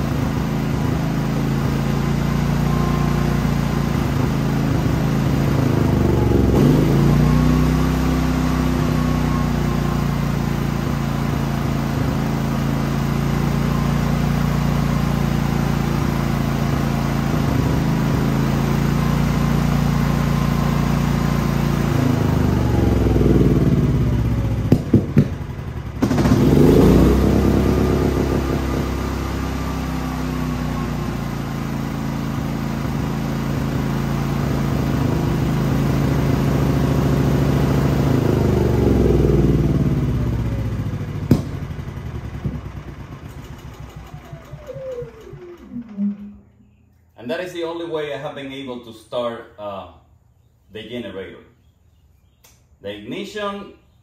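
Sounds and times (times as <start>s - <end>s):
generator engine running: 0.0s - 46.8s.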